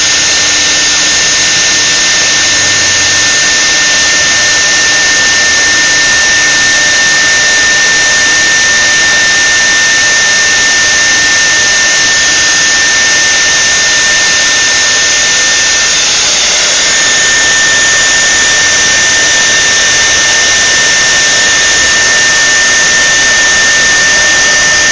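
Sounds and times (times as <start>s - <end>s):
router spindle high-pitched whine: 0.0s - 24.9s.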